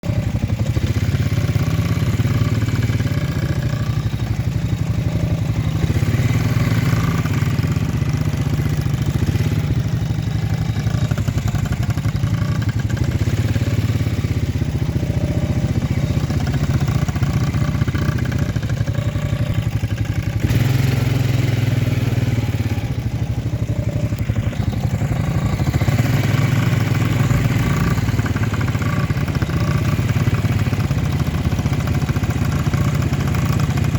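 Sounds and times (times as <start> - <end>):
quad bike engine running: 0.0 - 33.9.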